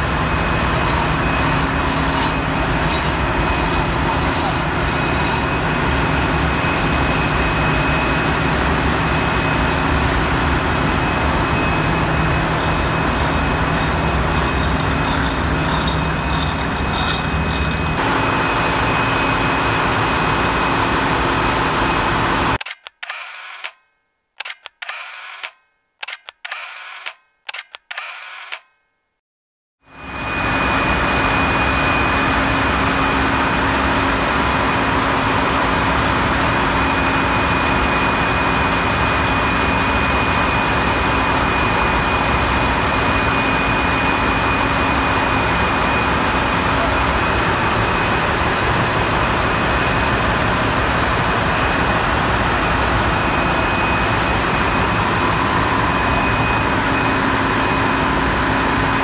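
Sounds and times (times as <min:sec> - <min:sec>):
engine room machinery hum: 0:00.0 - 0:28.6, 0:29.8 - 0:59.0.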